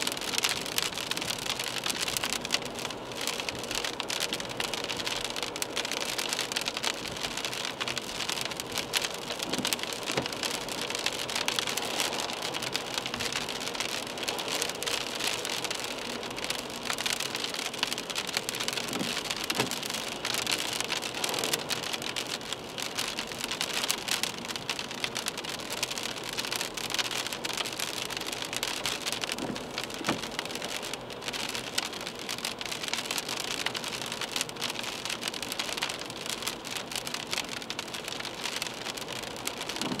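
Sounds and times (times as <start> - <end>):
rain on car windscreen: 0.0 - 40.0.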